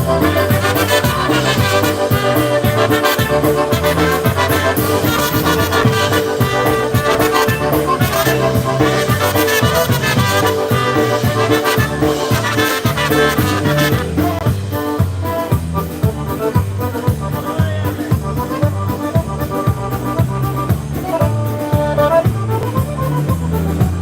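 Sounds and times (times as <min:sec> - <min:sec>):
accordion: 0:00.0 - 0:24.0
polka band playing: 0:00.0 - 0:24.0.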